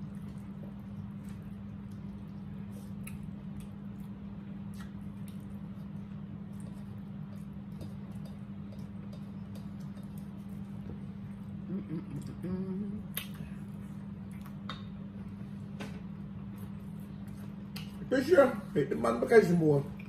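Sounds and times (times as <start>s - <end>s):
chewing and mouth noises: 0.0s - 15.5s, 16.3s - 18.1s
steady low hum: 0.0s - 20.0s.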